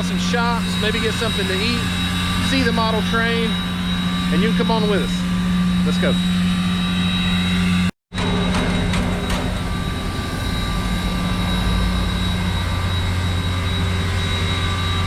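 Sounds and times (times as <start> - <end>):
idling engine drone: 0.0 - 15.0
thin high whine: 0.0 - 15.0.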